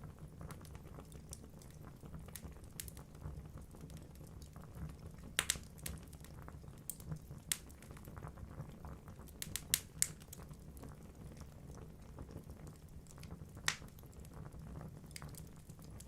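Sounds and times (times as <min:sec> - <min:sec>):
low rumble of flames: 0:00.0 - 0:16.0
logs crackling and popping: 0:00.2 - 0:16.0.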